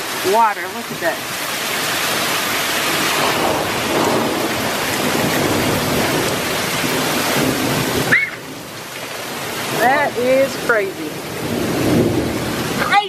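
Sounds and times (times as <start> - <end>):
torrential rain pouring: 0.0 - 13.0.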